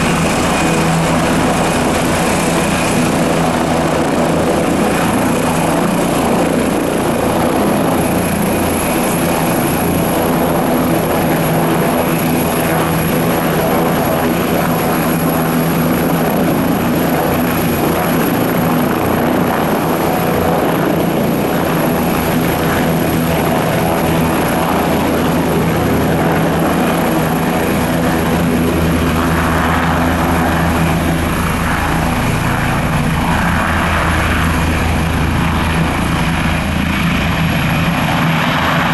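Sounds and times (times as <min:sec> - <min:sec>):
helicopter turbine whine and rotor: 0:00.0 - 0:38.9.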